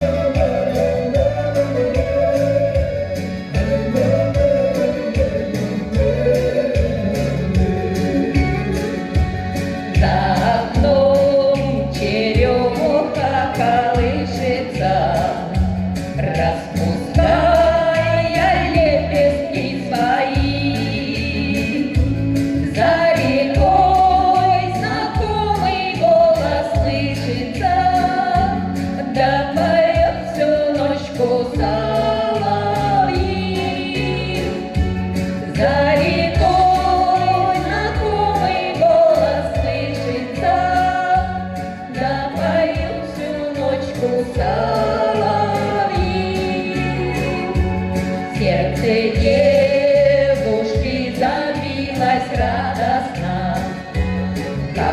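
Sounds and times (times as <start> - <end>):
backing track with pulsing beat: 0.0 - 54.9
two voices singing together: 0.0 - 54.9.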